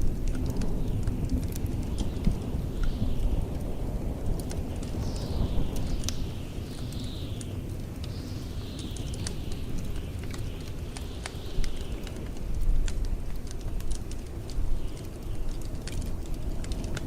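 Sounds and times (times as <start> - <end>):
low rumble of blizzard wind: 0.0 - 17.0
wood fire crackling and popping: 0.0 - 17.0.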